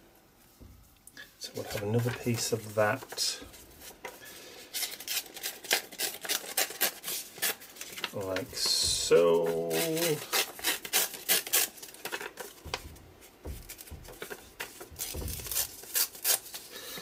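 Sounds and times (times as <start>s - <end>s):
paper rustling and crinkling: 0.4s - 17.0s.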